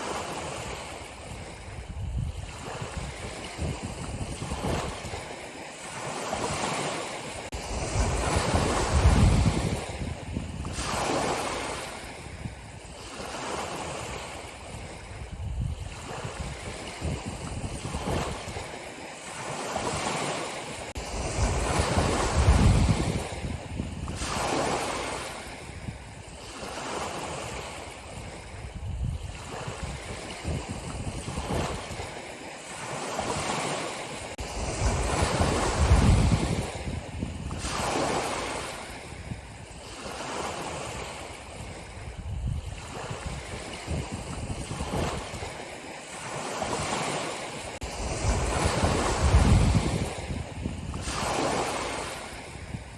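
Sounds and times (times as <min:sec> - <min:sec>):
ocean surf washing ashore: 0:00.0 - 0:52.9.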